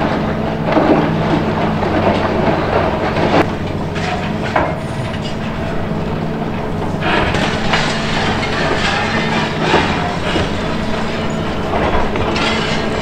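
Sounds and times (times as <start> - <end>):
concrete and steel crunching: 0.0 - 13.0
excavator diesel engine running: 0.0 - 13.0.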